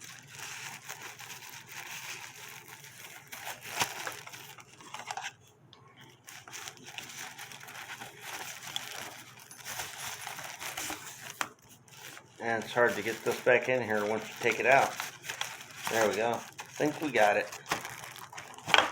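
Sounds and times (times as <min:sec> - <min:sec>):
packaging rustling and crinkling: 0:00.0 - 0:18.9.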